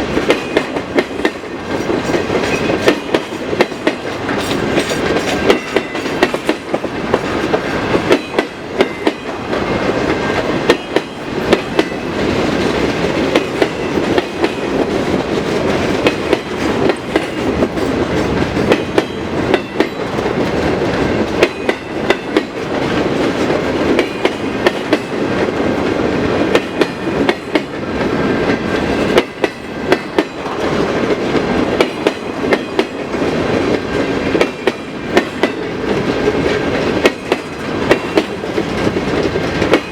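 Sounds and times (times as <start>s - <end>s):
train rolling rumble: 0.0s - 39.9s
train wheels clickety-clack: 0.0s - 39.9s.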